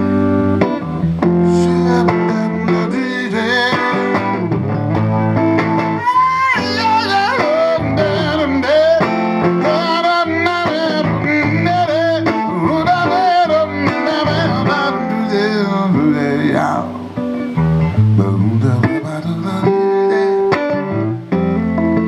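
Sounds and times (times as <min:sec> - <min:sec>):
blues band playing: 0:00.0 - 0:22.0
high bending melody line: 0:00.0 - 0:22.0.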